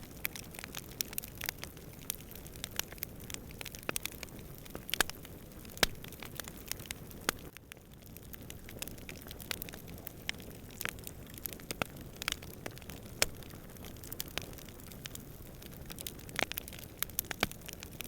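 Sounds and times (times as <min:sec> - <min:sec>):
campfire crackling and popping: 0:00.0 - 0:18.0
low rumble of fire: 0:00.0 - 0:18.0.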